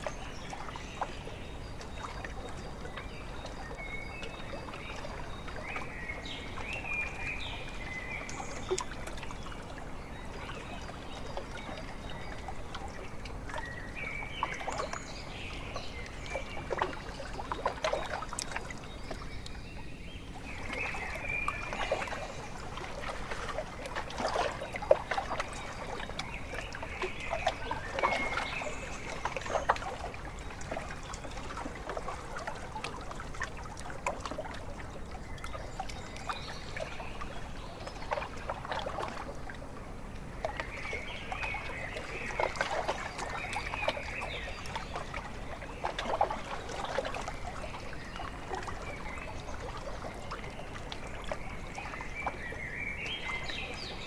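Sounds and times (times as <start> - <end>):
waves lapping at shore: 0.0 - 54.0.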